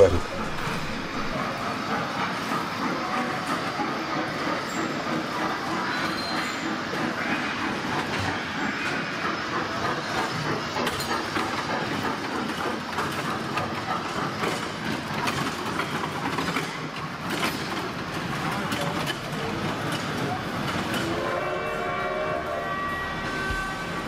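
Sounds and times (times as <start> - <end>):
ride train cars rattling: 0.0 - 24.0.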